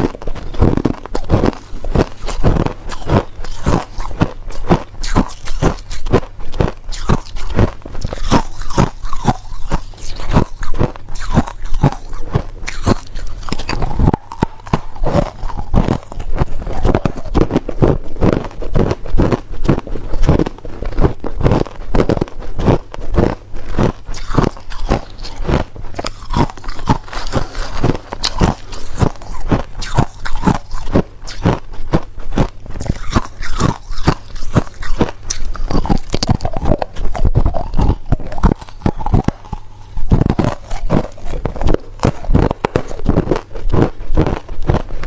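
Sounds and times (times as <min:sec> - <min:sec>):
ice being chewed: 0:00.0 - 0:45.0.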